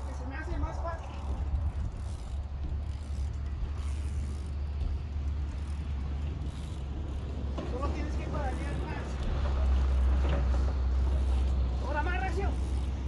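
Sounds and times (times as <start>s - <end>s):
bike rolling on ramp: 0.0s - 13.0s
low wind rumble on microphone: 0.0s - 13.0s.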